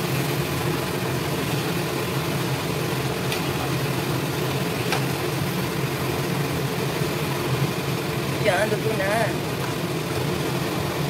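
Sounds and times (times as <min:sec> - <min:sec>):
constant mechanical hum: 0:00.0 - 0:11.0
sweet potato sizzling in oil: 0:00.0 - 0:11.0.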